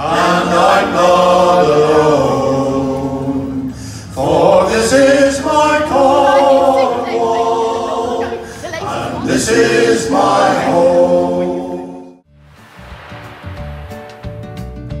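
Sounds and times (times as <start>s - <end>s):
men singing in harmony: 0.0s - 12.2s.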